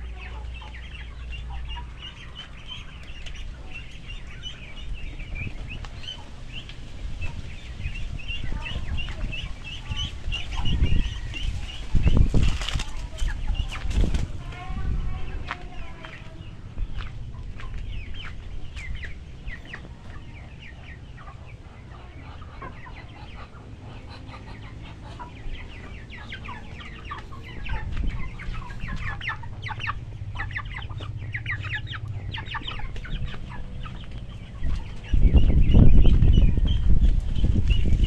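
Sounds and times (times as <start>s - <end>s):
chickens clucking: 0.0s - 38.0s
low rumble: 0.0s - 38.0s.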